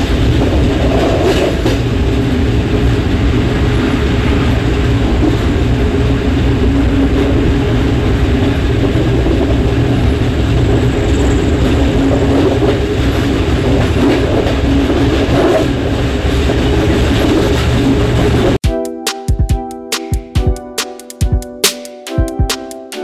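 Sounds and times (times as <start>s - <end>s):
train wheels rumbling on rails: 0.0s - 18.6s.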